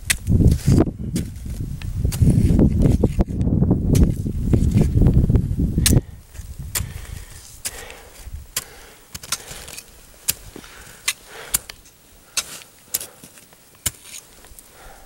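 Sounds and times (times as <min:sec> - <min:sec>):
ice axes and crampons crunching snow: 0:00.0 - 0:15.0.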